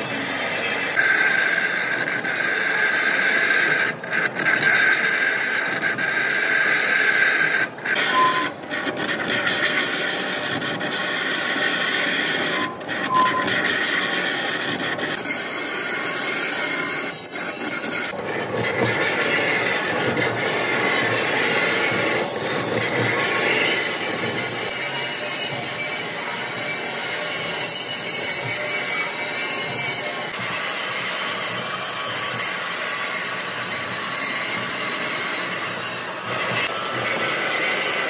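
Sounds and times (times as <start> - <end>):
lathe tool scraping metal rim: 0.0 - 38.0.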